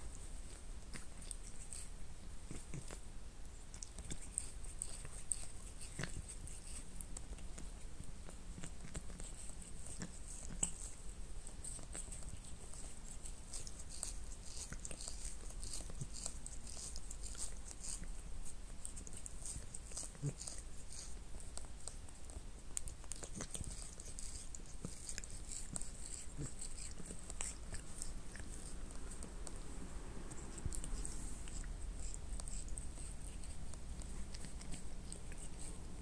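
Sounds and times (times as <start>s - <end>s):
cat licking fur: 0.0s - 36.0s.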